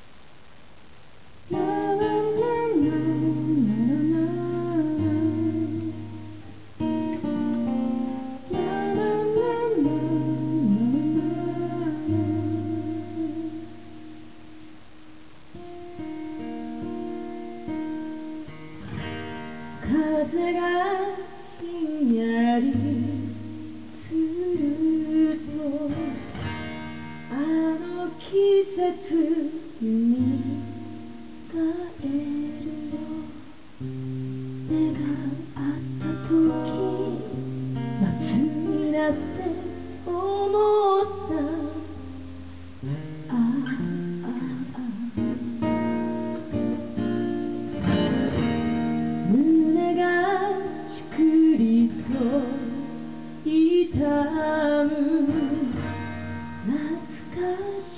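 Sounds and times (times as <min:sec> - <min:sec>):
acoustic guitar strummed: 0:01.4 - 0:57.9
woman singing: 0:01.5 - 0:14.0, 0:19.7 - 0:26.4, 0:27.2 - 0:34.0, 0:34.6 - 0:47.1, 0:49.2 - 0:57.9.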